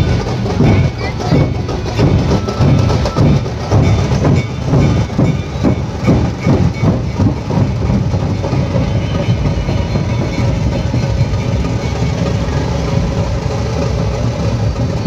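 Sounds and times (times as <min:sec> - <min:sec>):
large barrel drums beating: 0:00.0 - 0:15.0.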